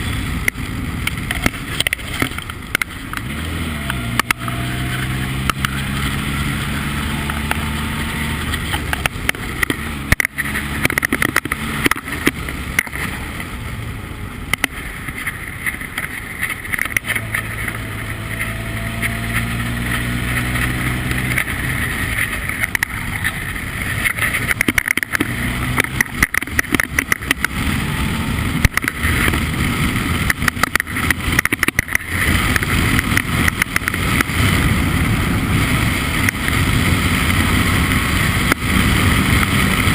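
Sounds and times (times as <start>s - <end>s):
race car engine revving: 0.0s - 39.9s
sharp exhaust crackles: 0.0s - 39.9s.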